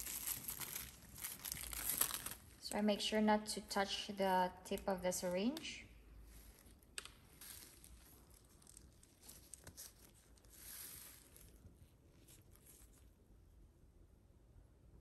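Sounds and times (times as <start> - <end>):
plastic rustling: 0.0 - 2.8, 3.9 - 13.2.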